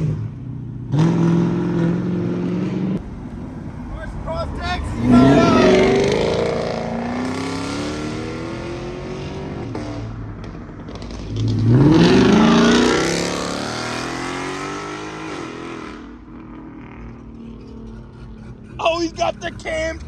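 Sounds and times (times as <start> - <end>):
car engines accelerating hard: 0.0 - 20.0.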